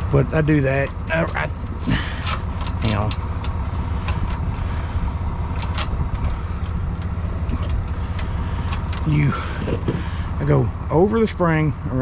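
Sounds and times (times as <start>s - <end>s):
tow chain clinking: 0.0s - 10.8s
truck engine idling: 0.0s - 12.0s.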